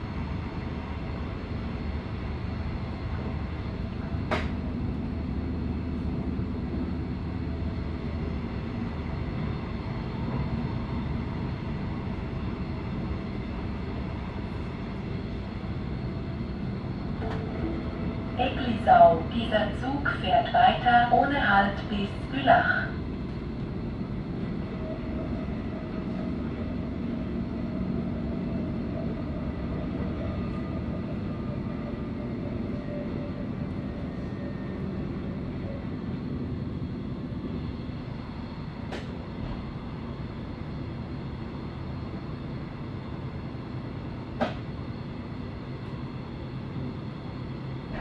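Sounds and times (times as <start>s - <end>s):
train rumble: 0.0s - 48.0s.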